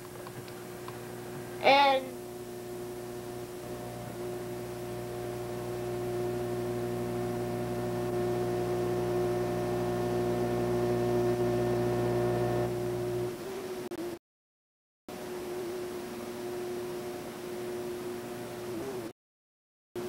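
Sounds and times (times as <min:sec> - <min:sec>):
hum of held tones: 0:00.2 - 0:14.2, 0:15.1 - 0:19.1.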